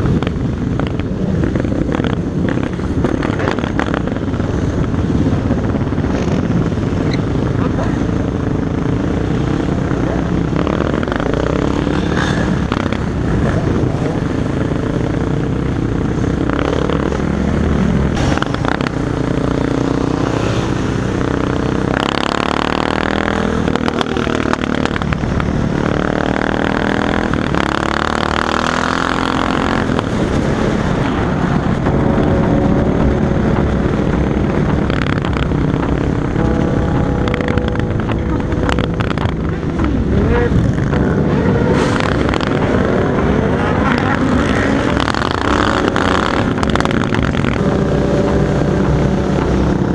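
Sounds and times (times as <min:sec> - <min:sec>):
motorcycle engine revving: 0:00.0 - 0:49.9
wind noise: 0:00.0 - 0:49.9.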